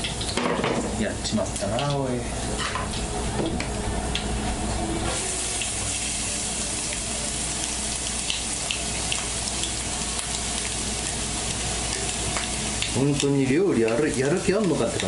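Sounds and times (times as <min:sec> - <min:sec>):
carrot sizzling in hot oil: 0:00.0 - 0:03.4, 0:04.2 - 0:15.0.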